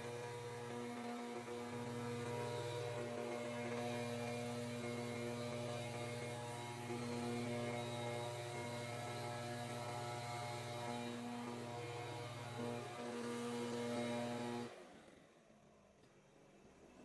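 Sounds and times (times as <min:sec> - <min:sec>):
small petrol engine droning: 0:00.0 - 0:15.1.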